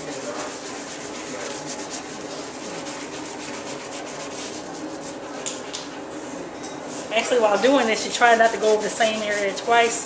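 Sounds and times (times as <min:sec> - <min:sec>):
wet sponge scrubbing skin: 0:00.0 - 0:05.3, 0:07.2 - 0:10.0.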